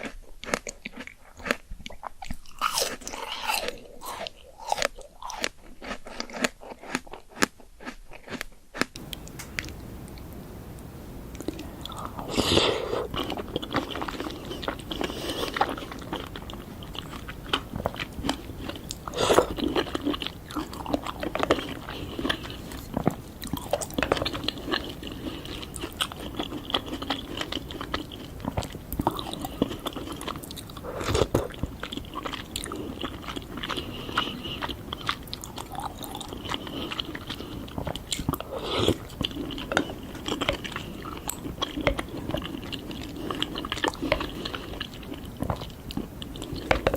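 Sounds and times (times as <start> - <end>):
person chewing crunchy fruit: 0.0 - 46.9.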